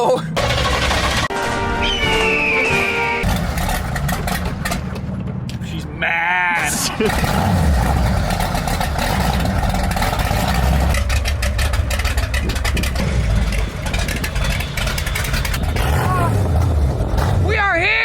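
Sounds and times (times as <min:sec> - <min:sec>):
truck engine running: 0:00.2 - 0:18.0.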